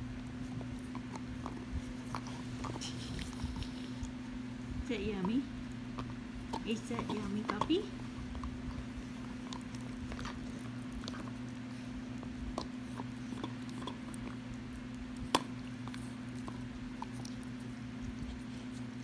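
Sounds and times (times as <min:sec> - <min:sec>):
dog gnawing a chew: 0:00.0 - 0:19.0
steady low hum: 0:00.0 - 0:19.0.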